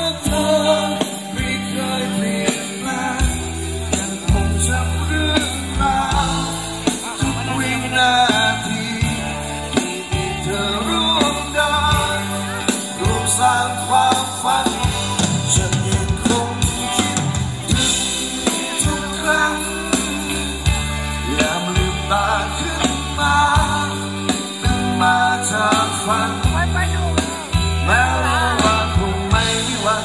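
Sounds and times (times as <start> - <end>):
bass line: 0.0 - 30.0
drum kit keeping a steady beat: 0.0 - 30.0
person singing: 0.0 - 30.0.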